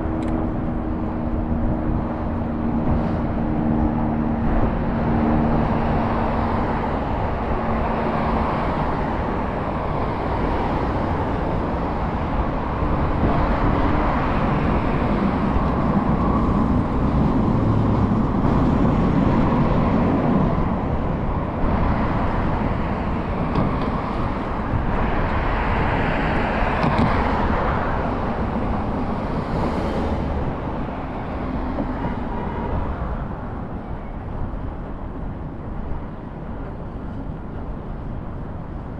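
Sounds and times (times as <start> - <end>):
road and traffic noise: 0.0 - 38.9
wind rumble on microphone: 0.0 - 38.9.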